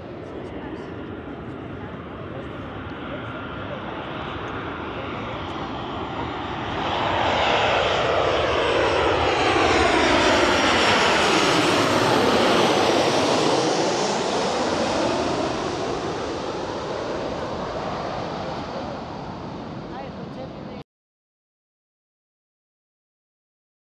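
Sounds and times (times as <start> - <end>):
jet airliner flying overhead: 0.0 - 20.8.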